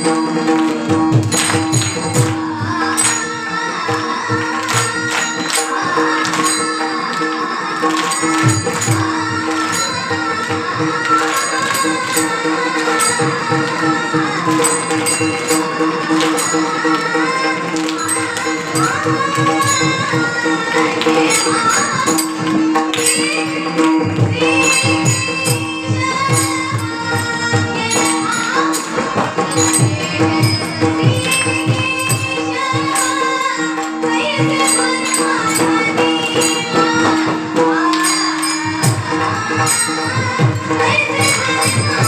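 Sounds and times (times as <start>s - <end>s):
women singing devotional song: 0.0s - 42.0s.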